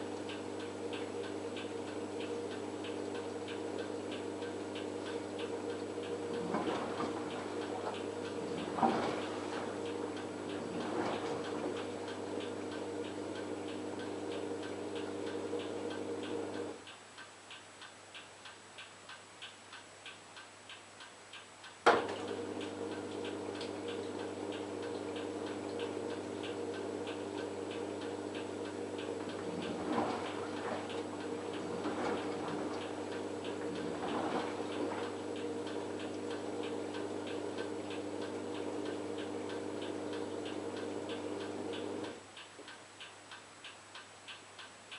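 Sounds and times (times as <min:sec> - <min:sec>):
washing machine motor hum: 0:00.0 - 0:16.9, 0:21.8 - 0:42.7
washing machine ticking: 0:00.0 - 0:44.9.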